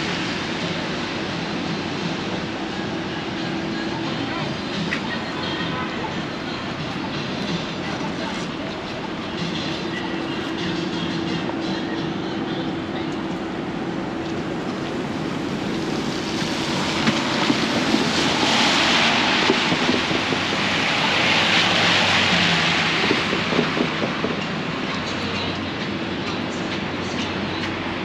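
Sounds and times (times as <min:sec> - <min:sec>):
tyre hiss on wet street: 0:00.0 - 0:28.0.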